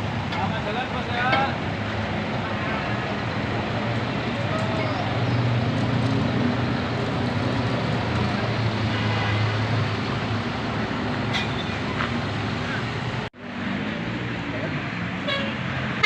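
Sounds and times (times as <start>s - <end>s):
engine hum: 0.0s - 16.0s
road traffic: 0.0s - 16.0s.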